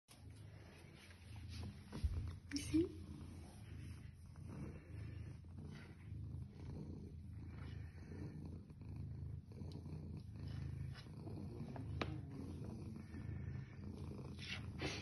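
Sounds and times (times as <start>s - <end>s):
cat purring: 0.1s - 15.0s.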